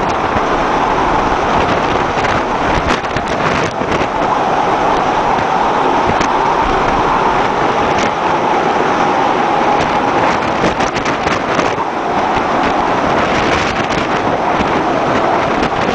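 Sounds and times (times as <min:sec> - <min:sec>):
waves breaking against hull: 0:00.0 - 0:15.9
wind blowing across microphone: 0:00.0 - 0:15.9.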